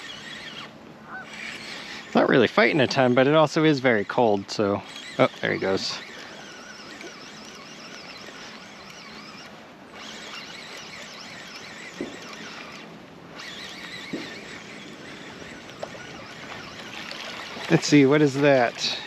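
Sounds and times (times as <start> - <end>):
fishing reel cranking: 0.0 - 19.0
small reel clicks: 0.0 - 19.0.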